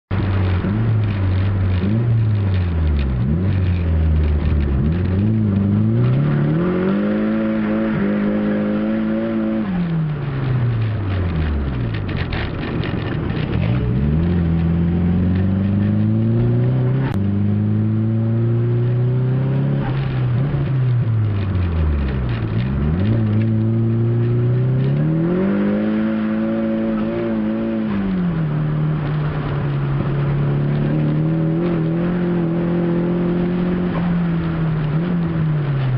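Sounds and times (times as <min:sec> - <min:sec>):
car engine revving: 0:00.1 - 0:35.9.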